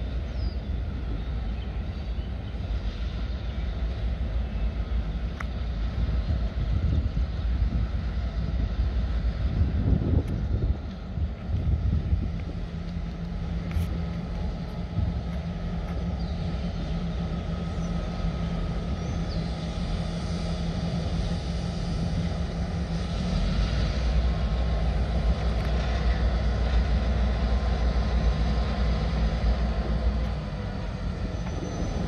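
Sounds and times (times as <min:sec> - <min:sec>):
locomotive engine drone: 0:00.0 - 0:32.0.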